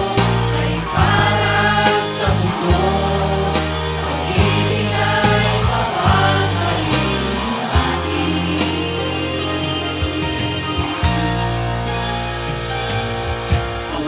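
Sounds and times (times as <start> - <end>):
group of voices singing: 0.0 - 12.0
instrumental backing with bass: 0.0 - 14.0.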